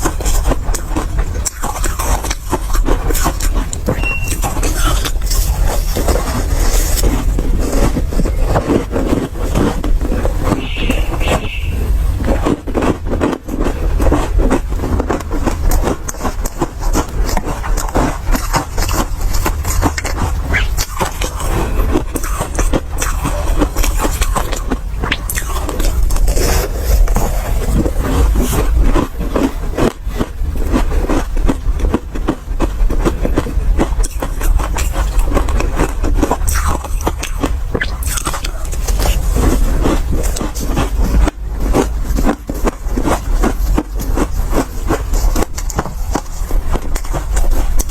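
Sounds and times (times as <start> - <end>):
chewing crunchy ice: 0.0 - 47.9.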